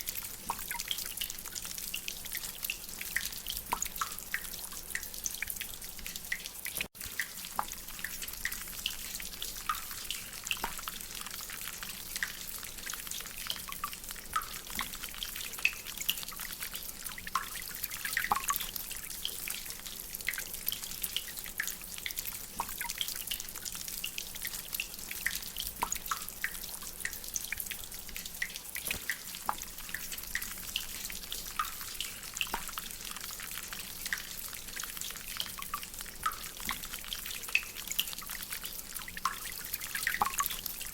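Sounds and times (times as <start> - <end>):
rainwater dripping: 0.0 - 40.9.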